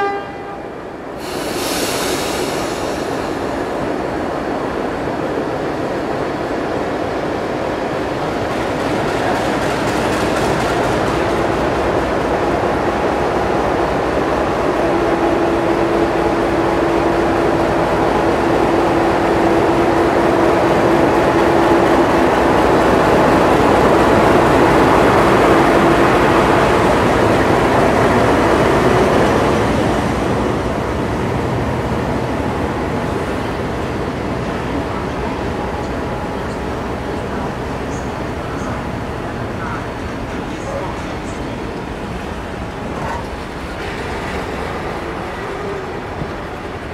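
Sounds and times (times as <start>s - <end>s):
diesel locomotive running: 1.2s - 46.9s.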